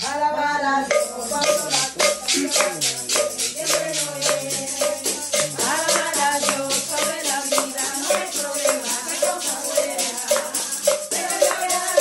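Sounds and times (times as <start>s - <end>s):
group singing: 0.0s - 12.0s
maraca shaking: 0.0s - 12.0s
hand clapping: 0.9s - 12.0s.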